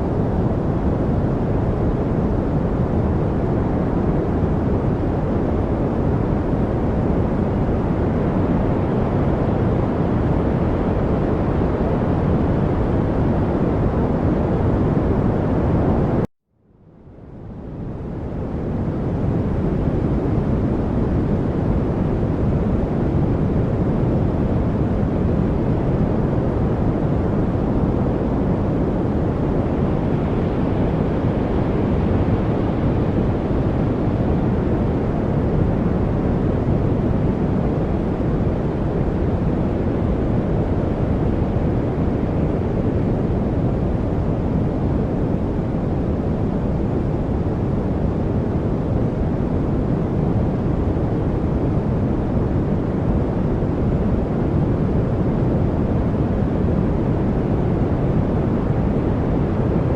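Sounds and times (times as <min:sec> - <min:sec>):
deep steady rushing noise: 0:00.0 - 0:16.3, 0:17.0 - 0:59.9.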